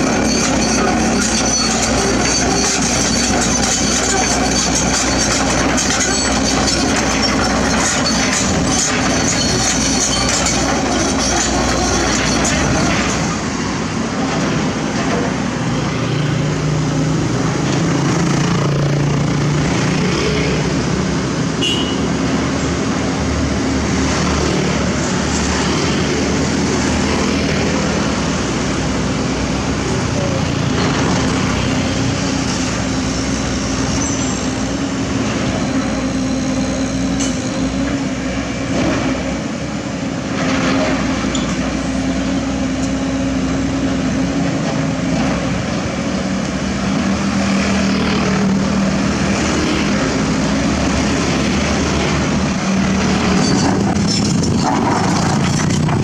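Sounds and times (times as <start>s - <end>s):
excavator diesel engine running: 0.0s - 21.4s, 22.2s - 56.0s
road traffic noise: 0.0s - 56.0s.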